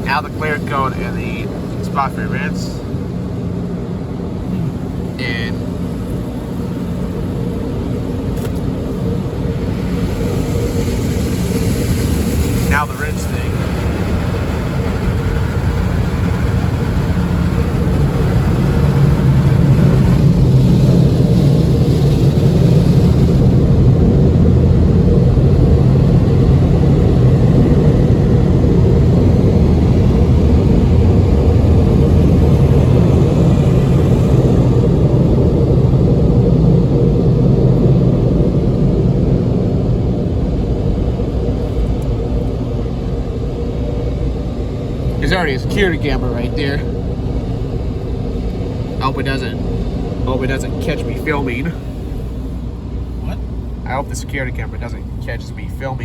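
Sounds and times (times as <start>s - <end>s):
car wash machinery drone: 0.0s - 56.0s.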